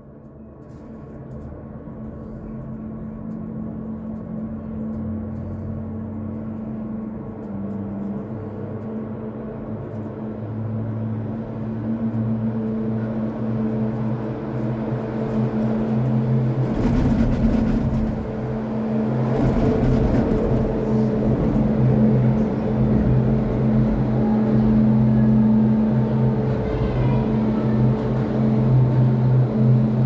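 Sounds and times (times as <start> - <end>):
cable car mechanical hum: 0.0 - 30.0.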